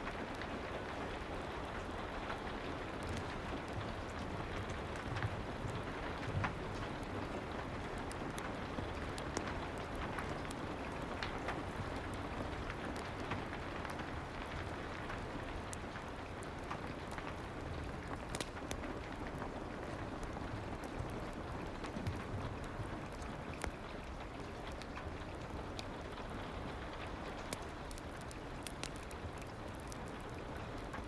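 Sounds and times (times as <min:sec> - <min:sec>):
soft rain: 0:00.0 - 0:31.0.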